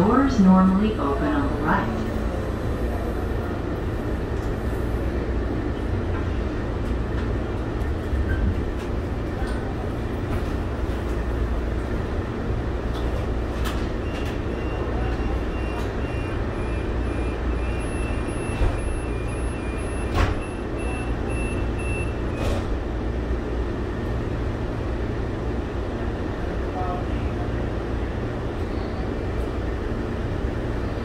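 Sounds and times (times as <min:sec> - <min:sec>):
rail car equipment humming: 0:00.0 - 0:31.0.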